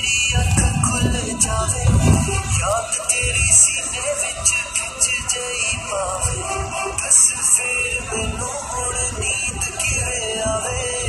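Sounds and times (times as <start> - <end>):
song with singing over a beat: 0.0 - 11.0.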